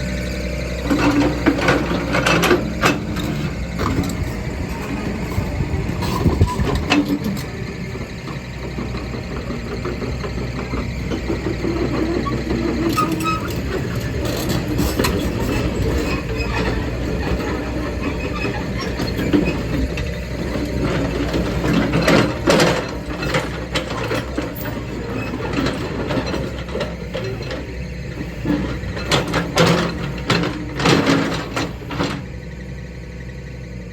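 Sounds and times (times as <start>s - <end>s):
excavator diesel engine: 0.0s - 33.9s
metallic clanks and knocks: 0.8s - 32.3s.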